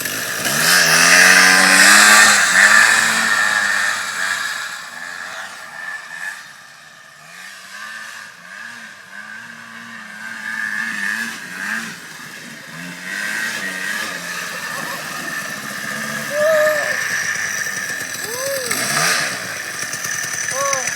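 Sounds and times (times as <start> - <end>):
buggy engine revving: 0.0 - 20.9.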